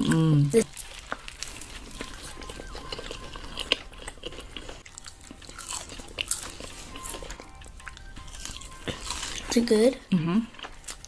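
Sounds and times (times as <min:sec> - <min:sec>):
biting and chewing food: 0:00.0 - 0:11.0
crisp crunches: 0:00.6 - 0:09.6.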